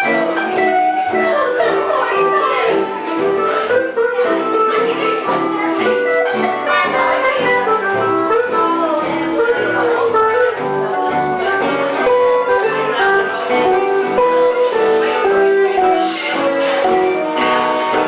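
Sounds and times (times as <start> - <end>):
live band with guitar: 0.0 - 18.0.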